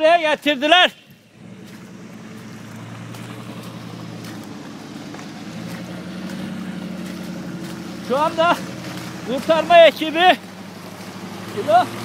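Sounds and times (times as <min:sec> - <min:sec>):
pickup engine in mud: 0:00.0 - 0:12.0.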